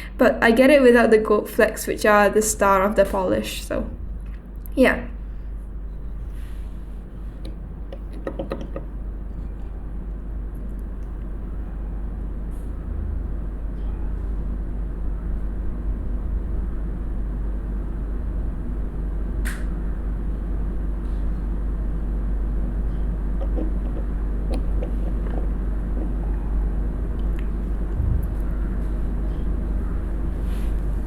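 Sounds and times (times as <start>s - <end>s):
low rumble with faint hum: 0.0s - 31.0s.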